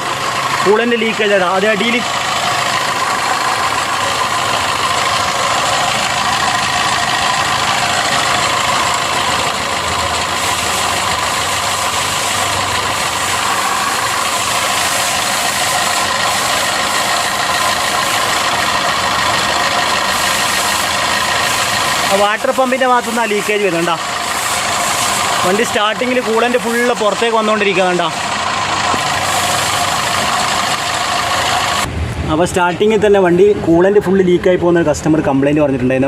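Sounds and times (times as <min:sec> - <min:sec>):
abnormal water pump noise: 0:00.0 - 0:32.0
car engine idling: 0:00.0 - 0:36.0.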